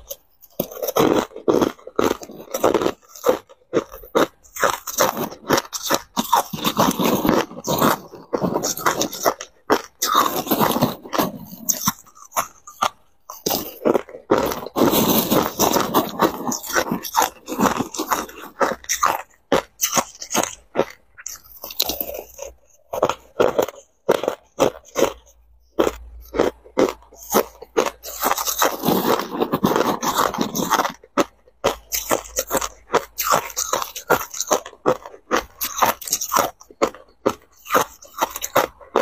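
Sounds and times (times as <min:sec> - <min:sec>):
crunching ice in mouth: 0:00.0 - 0:39.0.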